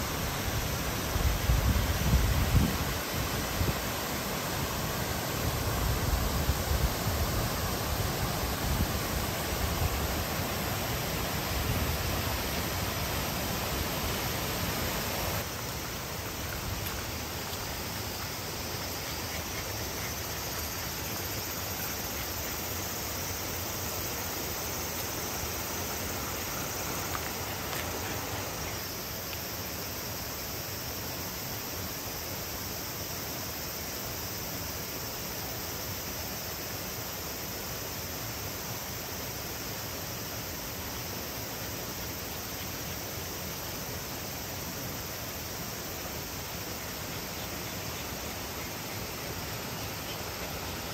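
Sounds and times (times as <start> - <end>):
mountain stream rushing over rocks: 0.0 - 50.9.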